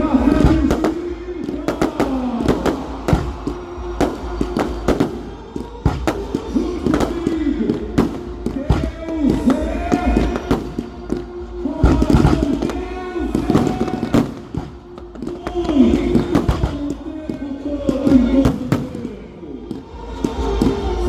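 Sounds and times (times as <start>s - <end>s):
fireworks banging: 0.0s - 21.0s
music: 0.0s - 21.0s
person singing: 0.0s - 21.0s.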